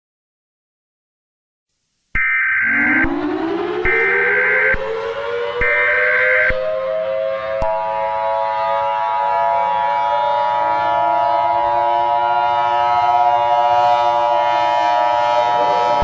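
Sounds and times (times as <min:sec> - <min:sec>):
warning siren wailing: 0:02.2 - 0:16.0.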